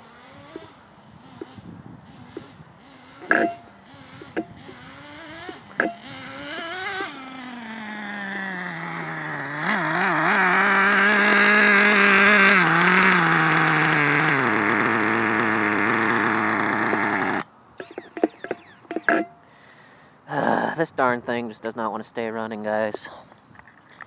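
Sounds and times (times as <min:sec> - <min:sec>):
small nitro engine idling: 0:00.0 - 0:19.4.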